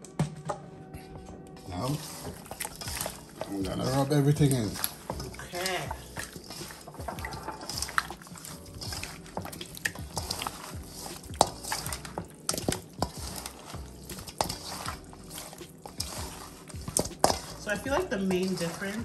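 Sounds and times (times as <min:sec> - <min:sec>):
wet squelching of raw meat: 0:01.6 - 0:19.0.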